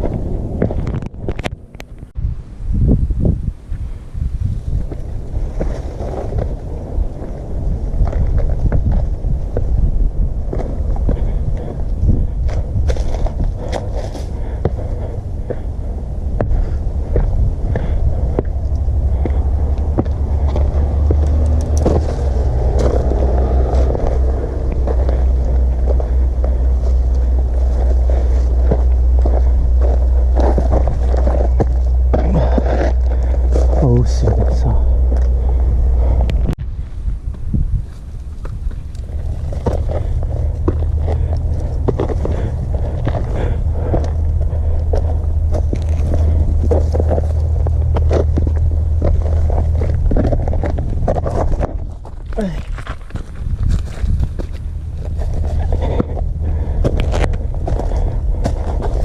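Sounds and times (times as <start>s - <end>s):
wind buffeting microphone: 0.0s - 59.0s
footsteps: 10.5s - 59.0s.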